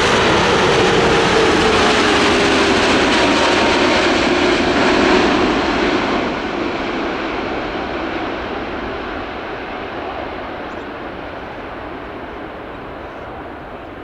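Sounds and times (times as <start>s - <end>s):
jet engine whine: 0.0s - 14.0s
jet engines roaring: 0.0s - 14.0s.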